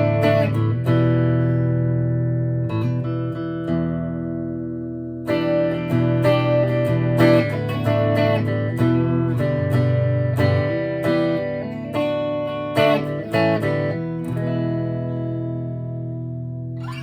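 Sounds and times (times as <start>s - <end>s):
clean electric guitar: 0.0s - 17.0s.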